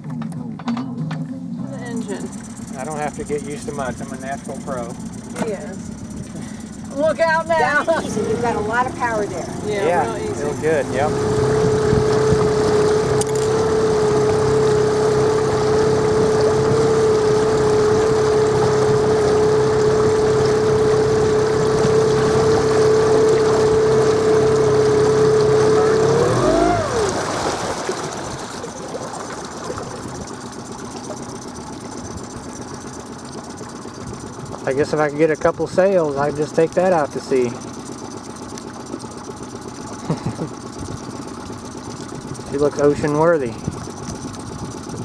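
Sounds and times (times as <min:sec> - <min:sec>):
boat engine running: 0:00.0 - 0:45.0.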